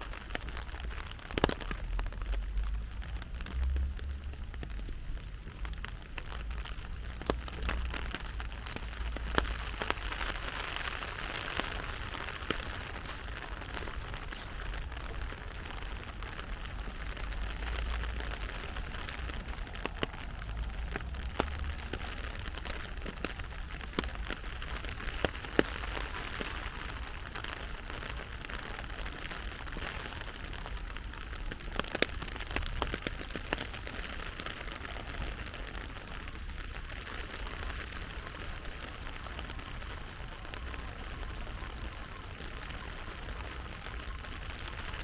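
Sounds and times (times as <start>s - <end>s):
heavy rain falling: 0.0s - 45.0s
raindrops ticking: 0.0s - 45.0s.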